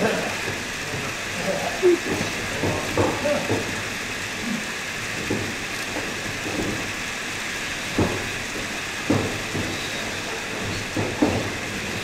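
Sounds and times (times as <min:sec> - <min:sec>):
hall noise hiss: 0:00.0 - 0:12.0.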